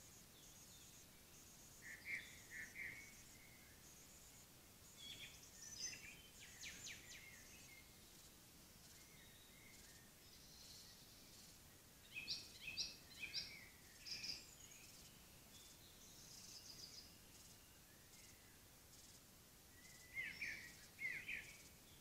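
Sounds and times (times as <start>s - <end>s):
songbirds singing: 0.0s - 22.0s.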